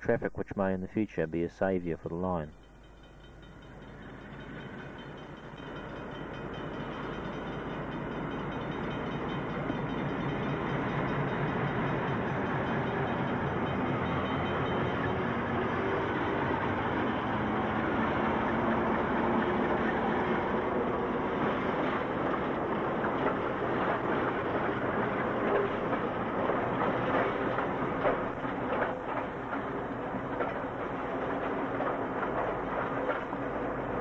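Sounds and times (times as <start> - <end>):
freight train rumbling: 0.0 - 34.0
wheels clicking over rail joints: 2.6 - 34.0.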